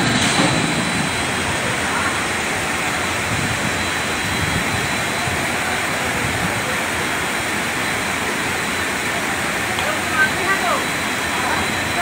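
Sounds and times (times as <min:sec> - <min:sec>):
floodwater rushing: 0:00.0 - 0:12.0
heavy rain: 0:00.0 - 0:12.0.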